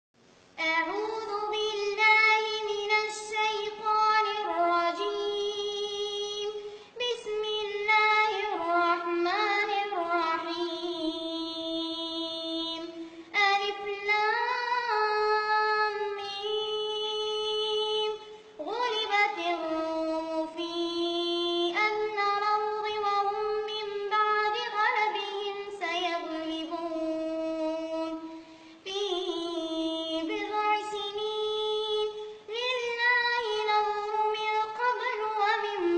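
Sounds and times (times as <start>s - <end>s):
child reciting in melodic chant: 0.6s - 35.9s.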